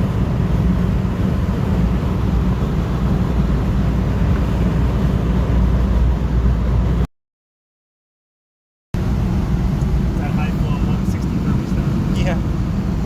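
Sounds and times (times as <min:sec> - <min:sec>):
car engine and road rumble: 0:00.0 - 0:07.1, 0:09.0 - 0:13.0.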